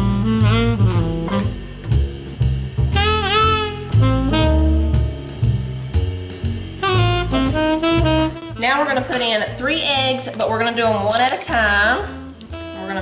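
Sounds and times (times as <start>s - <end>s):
drums: 0.0s - 13.0s
jazz lead melody: 0.0s - 13.0s
walking bass line: 0.0s - 13.0s.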